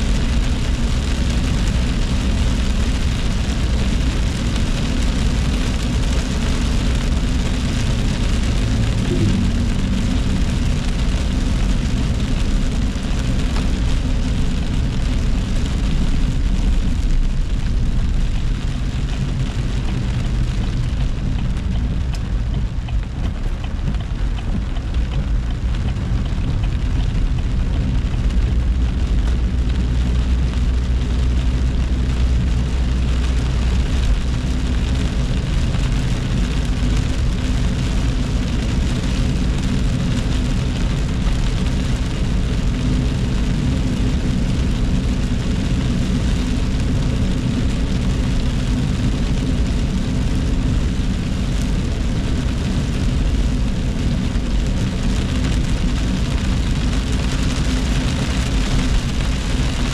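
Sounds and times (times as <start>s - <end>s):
car engine and road rumble: 0.0s - 59.9s
rain on car roof: 0.0s - 59.9s
tyres hissing on wet road: 0.0s - 59.9s.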